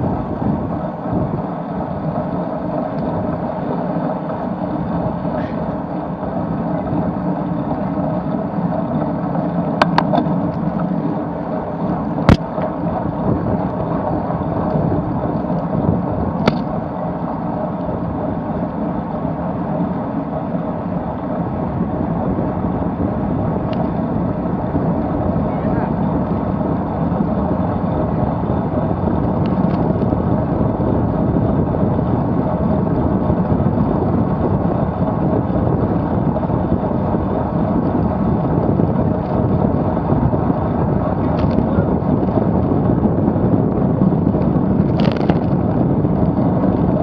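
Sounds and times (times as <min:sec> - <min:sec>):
bicycle tyre noise: 0:00.0 - 0:47.0
wind rush on microphone: 0:00.0 - 0:47.0.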